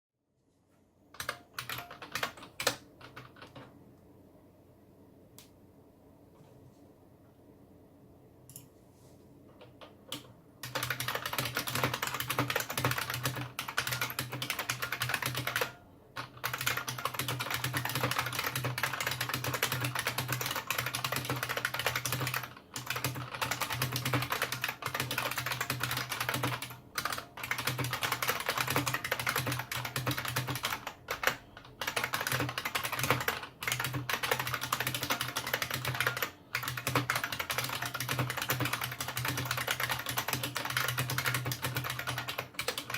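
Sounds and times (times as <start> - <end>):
fast clicky keyboard typing: 1.2 - 3.7, 9.7 - 42.9.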